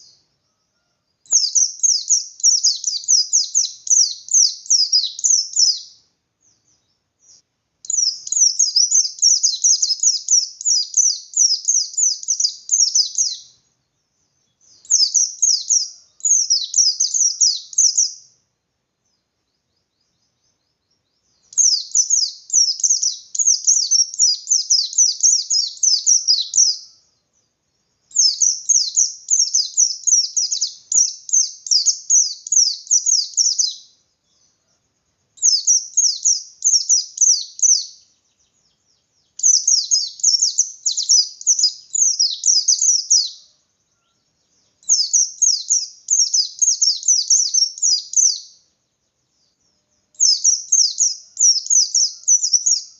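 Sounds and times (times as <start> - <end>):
bird singing: 0.0 - 52.9.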